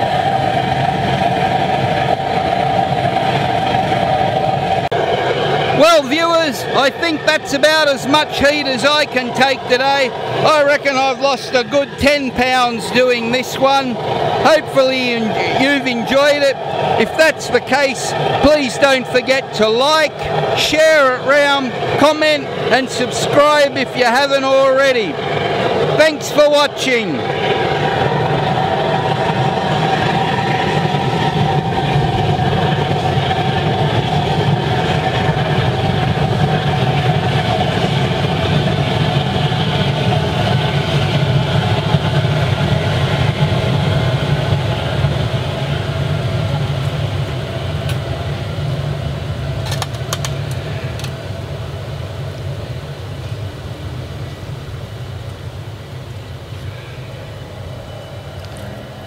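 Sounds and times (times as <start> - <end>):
oil burner roaring with whine: 0.0 - 59.0.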